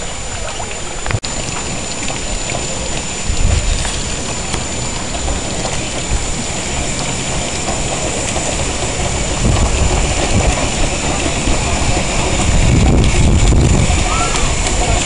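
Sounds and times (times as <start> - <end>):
miniature steam locomotive running: 0.0 - 15.0.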